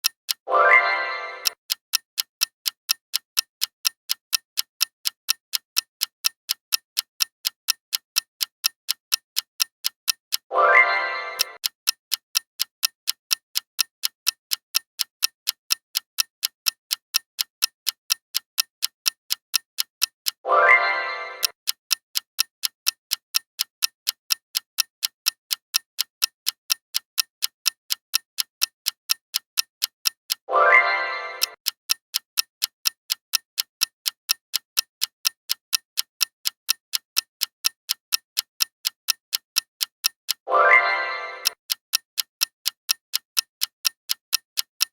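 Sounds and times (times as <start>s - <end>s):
clock ticking: 0.0s - 44.9s.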